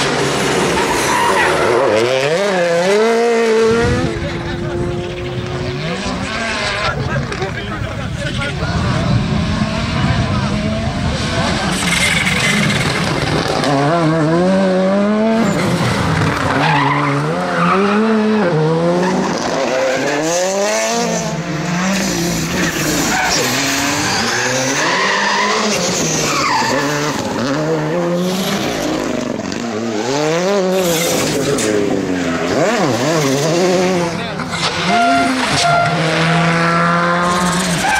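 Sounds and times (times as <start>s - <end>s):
rally car engines revving: 0.0s - 37.9s
tyres squealing and skidding: 0.2s - 3.2s, 4.0s - 7.5s, 11.1s - 13.8s, 15.4s - 37.9s.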